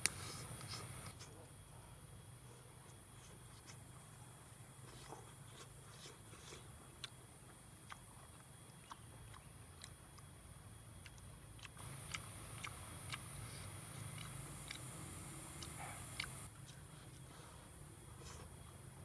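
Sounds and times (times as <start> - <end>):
chewing and crunching: 0.0 - 1.4, 2.6 - 19.0
low steady hum: 0.0 - 19.0.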